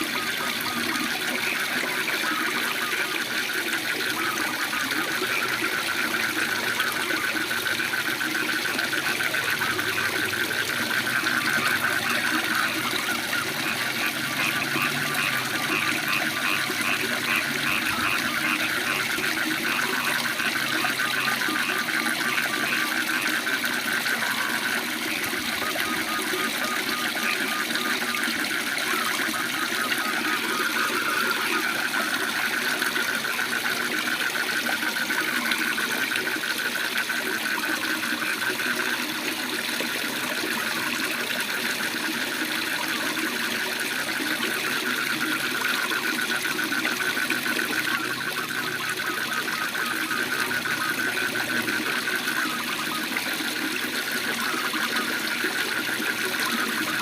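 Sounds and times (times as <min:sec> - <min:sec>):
frogs calling in rattling trill: 0:00.0 - 0:57.0.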